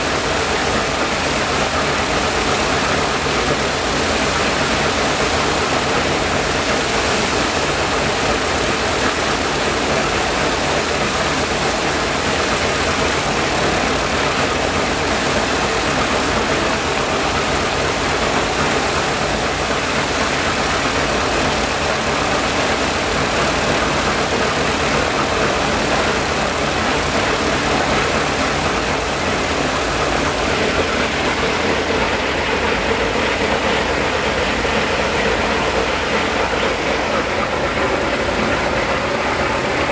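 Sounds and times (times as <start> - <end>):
radial propeller engine running: 0.0 - 39.9.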